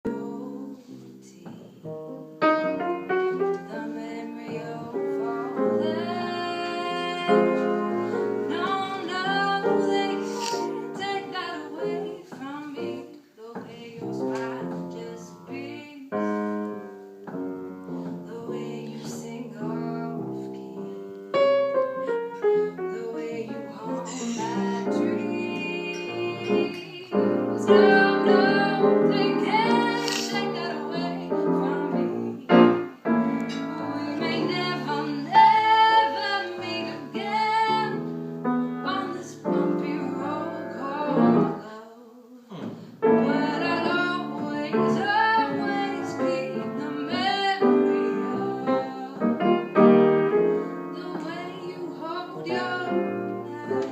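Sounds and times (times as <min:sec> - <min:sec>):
woman singing: 0:00.0 - 0:02.0, 0:03.0 - 0:16.9, 0:18.1 - 0:21.2, 0:22.0 - 0:38.1, 0:38.7 - 0:53.9
piano accompaniment: 0:00.0 - 0:41.8, 0:42.7 - 0:53.9.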